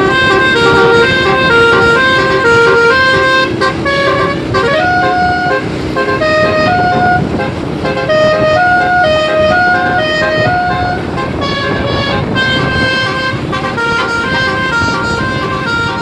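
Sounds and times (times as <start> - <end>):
bus engines rumbling: 0.0 - 16.0
multi-tone bus horns tune: 0.0 - 16.0.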